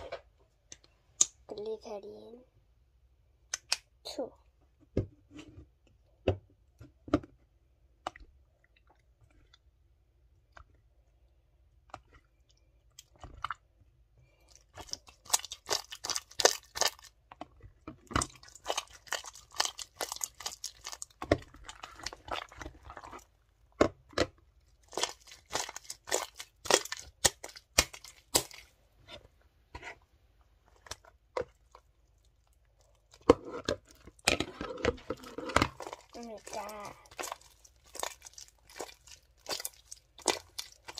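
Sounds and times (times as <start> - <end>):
slime squelching and crackling: 7.9 - 40.9.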